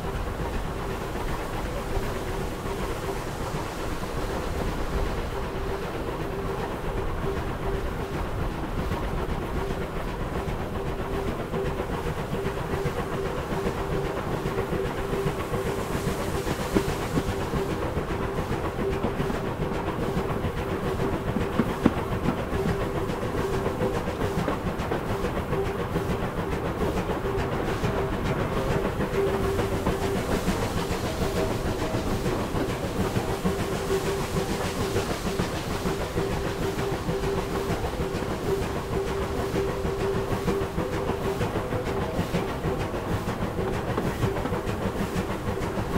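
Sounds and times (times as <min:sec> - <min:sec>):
steam hiss: 0:00.0 - 0:45.9
steam train rumbling: 0:00.0 - 0:45.9
wheels clicking on track: 0:00.0 - 0:45.9.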